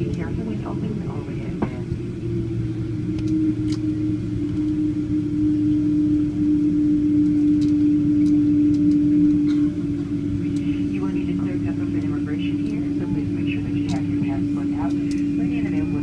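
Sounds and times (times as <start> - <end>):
jet engines idling from cabin: 0.0 - 16.0.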